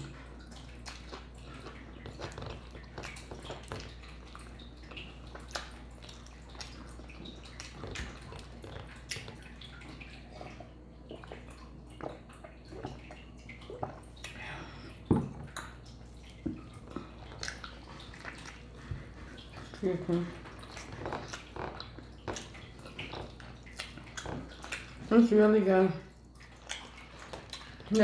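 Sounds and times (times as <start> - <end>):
chewing with wet mouth clicks: 0.0 - 14.9, 15.5 - 25.1, 26.2 - 28.0.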